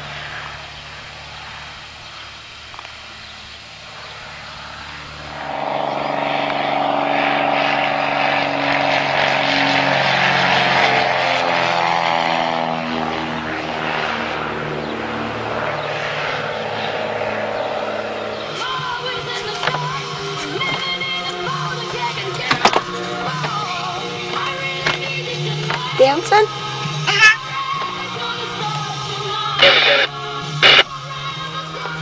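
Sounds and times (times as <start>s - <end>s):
propeller plane flying overhead: 0.0s - 32.0s.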